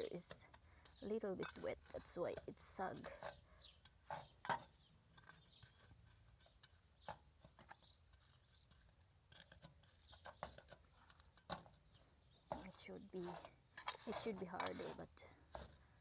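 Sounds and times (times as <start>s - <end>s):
faint taps and scrapes of mortar: 0.0s - 16.0s.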